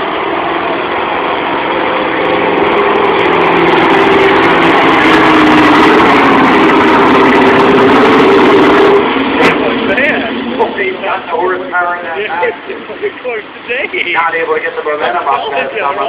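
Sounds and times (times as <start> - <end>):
diesel truck engine at full throttle: 0.0 - 16.0.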